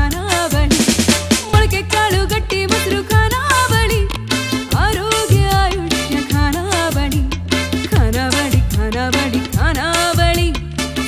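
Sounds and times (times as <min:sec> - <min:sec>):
music with bass and beat: 0:00.0 - 0:11.0.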